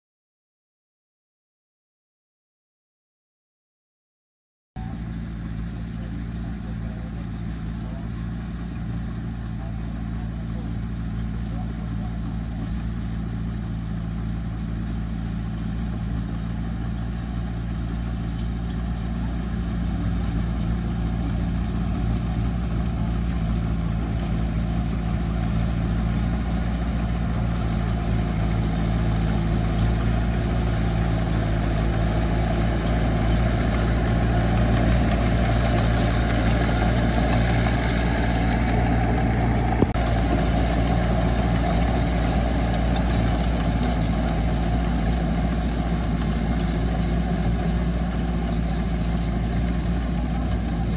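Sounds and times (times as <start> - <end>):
diesel engine running: 4.8 - 50.9.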